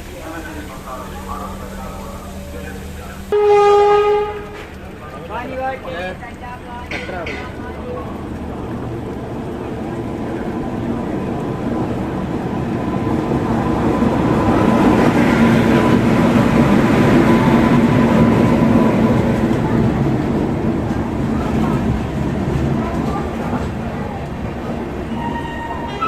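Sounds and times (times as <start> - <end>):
train running past: 0.0 - 26.0.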